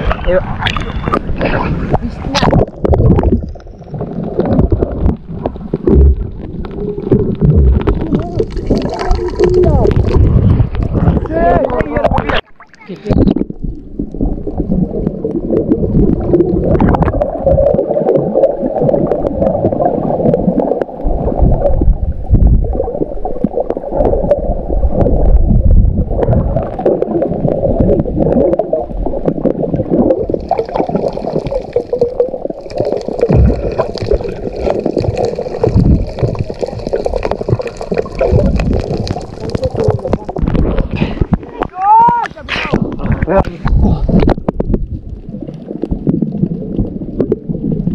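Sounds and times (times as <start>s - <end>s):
water sloshing and gurgling: 0.0s - 47.9s.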